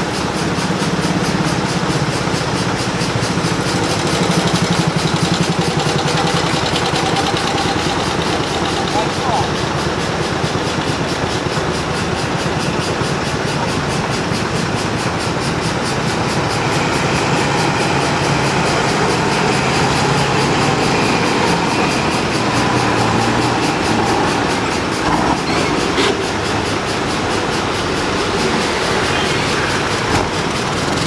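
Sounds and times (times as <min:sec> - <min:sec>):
heavy truck engines running: 0:00.0 - 0:31.0.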